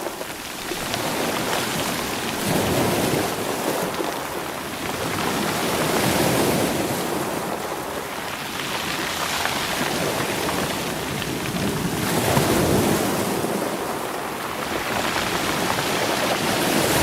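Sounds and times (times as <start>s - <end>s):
stones rolling in surf: 0.0s - 17.0s
waves washing over rocky shore: 0.0s - 17.0s.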